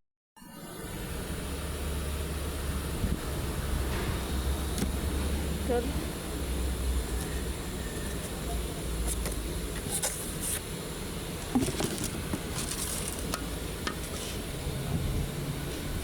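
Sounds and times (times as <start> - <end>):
low background hum: 0.6 - 16.0.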